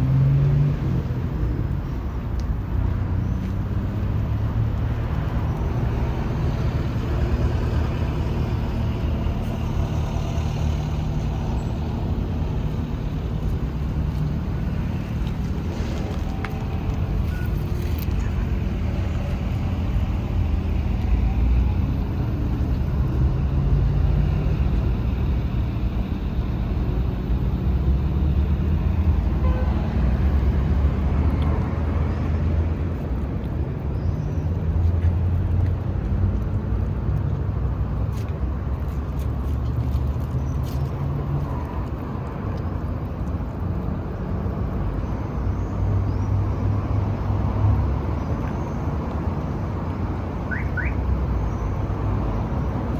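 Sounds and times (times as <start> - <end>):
road traffic noise: 0.0 - 52.9
vehicle engine rumbling: 0.0 - 52.9.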